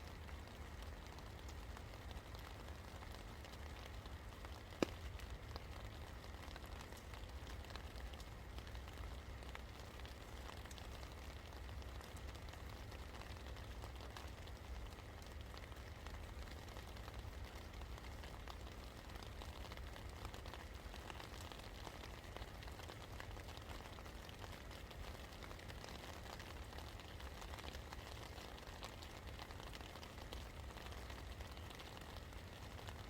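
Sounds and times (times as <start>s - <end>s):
rain drops ticking: 0.0s - 33.0s.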